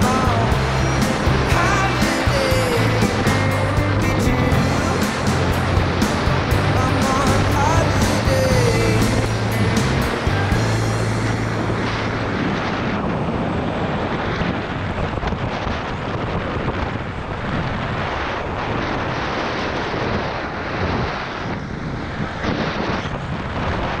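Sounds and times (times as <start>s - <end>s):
longboard wheels rolling on asphalt: 0.0s - 24.0s
wind rushing over microphone: 0.0s - 24.0s.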